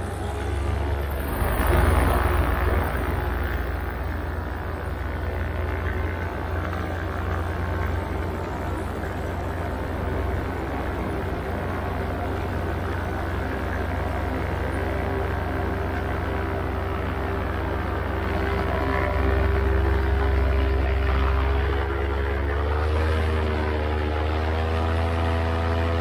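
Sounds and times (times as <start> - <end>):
motor and propeller running: 0.0 - 26.0.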